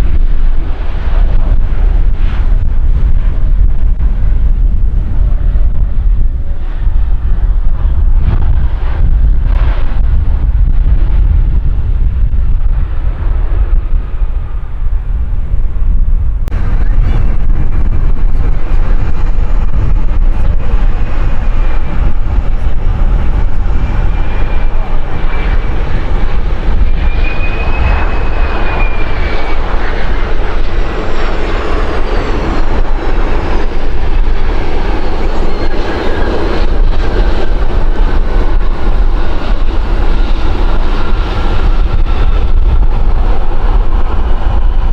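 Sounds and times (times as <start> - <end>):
jet plane passing: 0.0 - 44.9
wind buffeting microphone: 0.0 - 44.9.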